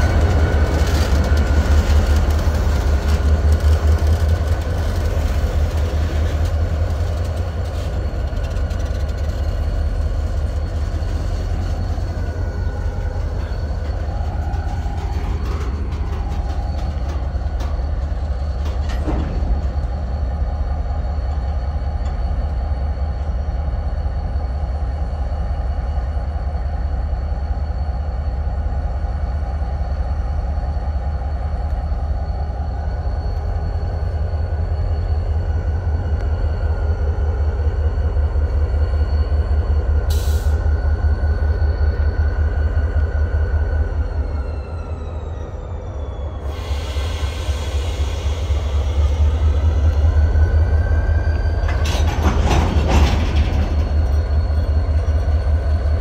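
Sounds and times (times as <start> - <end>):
diesel locomotive engine rumble: 0.0 - 56.0
train cars rolling on rails: 0.0 - 56.0.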